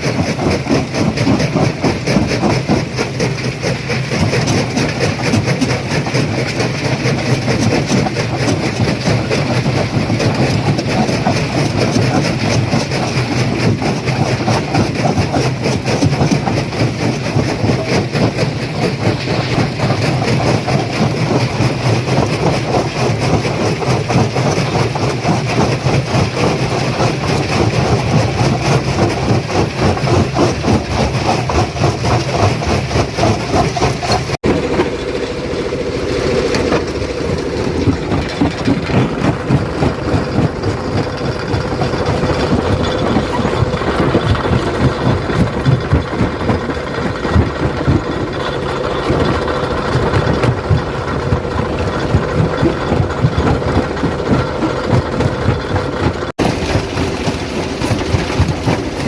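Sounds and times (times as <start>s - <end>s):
stone crusher crushing rock: 0.0s - 35.2s, 36.1s - 59.0s
steady machine hum: 0.0s - 59.0s.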